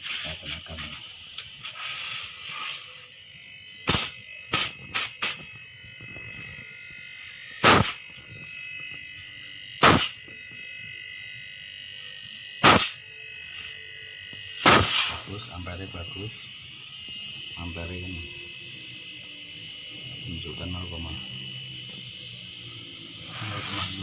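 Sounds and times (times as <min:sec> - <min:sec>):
sharp noisy bursts: 0:00.0 - 0:09.2, 0:09.8 - 0:10.8, 0:12.2 - 0:24.0
air compressor motor whine: 0:00.0 - 0:24.0.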